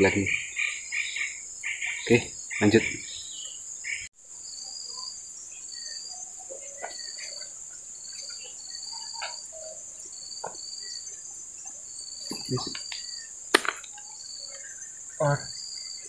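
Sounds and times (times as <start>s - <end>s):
insects droning: 0.0s - 16.0s
short insect chirps: 0.0s - 16.0s.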